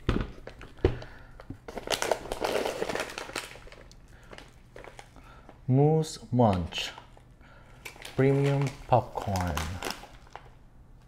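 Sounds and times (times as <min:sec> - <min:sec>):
plastic snack bag crinkling: 0:00.0 - 0:05.6, 0:06.4 - 0:10.7.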